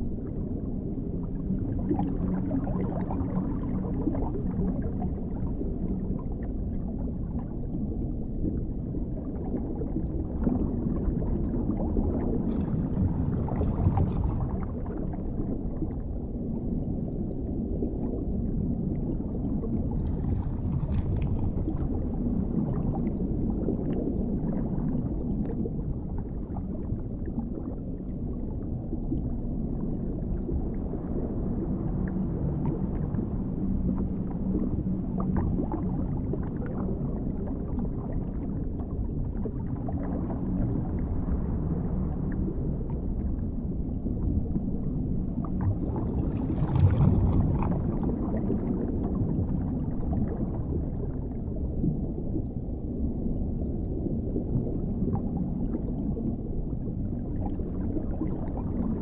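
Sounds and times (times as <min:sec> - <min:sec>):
muffled underwater rumble: 0:00.0 - 0:59.0.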